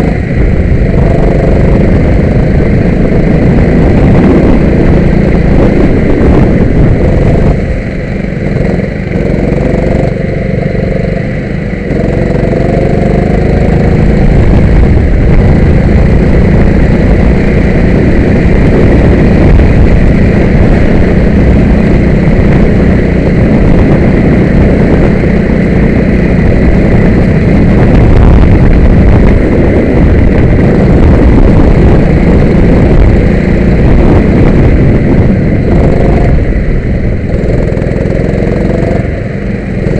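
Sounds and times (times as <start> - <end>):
go-kart engine accelerating: 0.0 - 28.5, 29.4 - 39.9.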